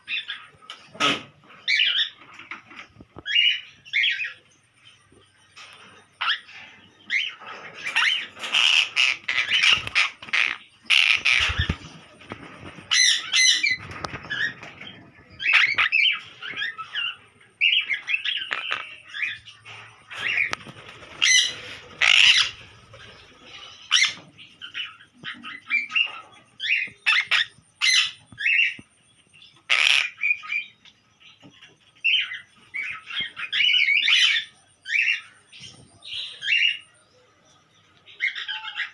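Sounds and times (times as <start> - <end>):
parrots squawking and screeching: 0.0 - 4.3, 5.6 - 28.8, 29.6 - 30.7, 32.0 - 35.2, 38.2 - 38.9.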